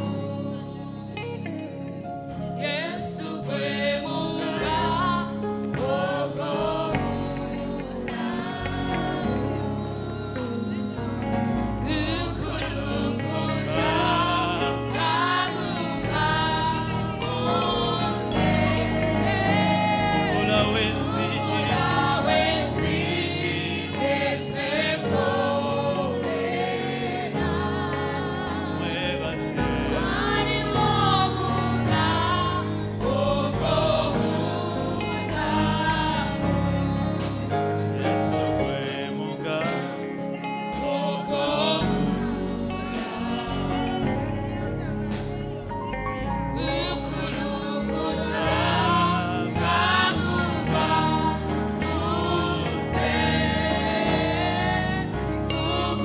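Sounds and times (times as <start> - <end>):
keyboard and bass accompaniment: 0.0 - 56.0
voices singing: 0.0 - 56.0.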